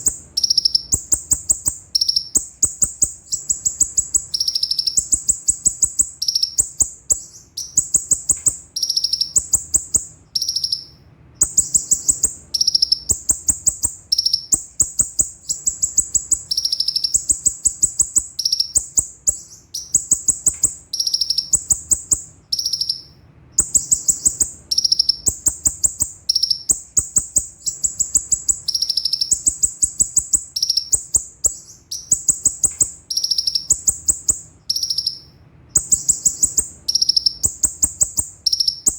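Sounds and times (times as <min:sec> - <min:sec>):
sunbird singing high trills: 0:00.0 - 0:38.9.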